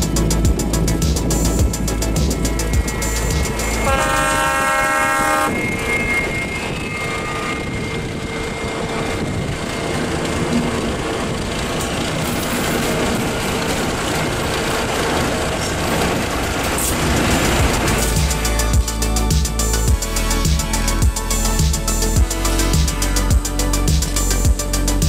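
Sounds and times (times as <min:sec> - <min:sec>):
diesel locomotive passing: 0:00.0 - 0:24.9.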